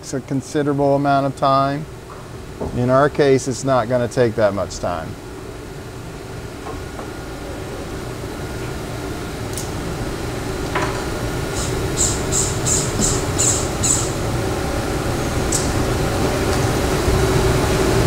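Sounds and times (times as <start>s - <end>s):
machine shop hum: 0.0s - 18.0s.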